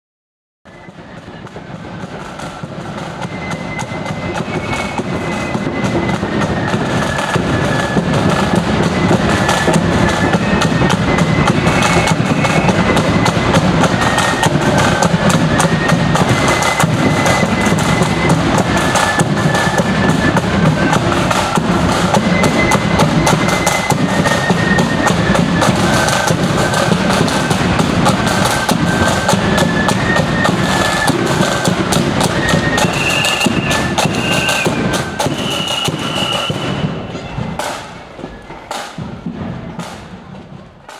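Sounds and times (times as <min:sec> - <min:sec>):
high flute melody: 0:00.7 - 0:39.0
rapid side-drum rolls: 0:00.7 - 0:40.9
bass drum beats: 0:01.8 - 0:40.9.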